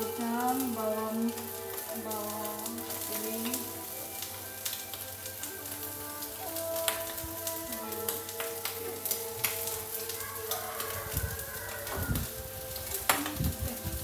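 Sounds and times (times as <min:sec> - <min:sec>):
background music with held tones: 0:00.0 - 0:14.0
vegetables sizzling in oil: 0:00.0 - 0:14.0.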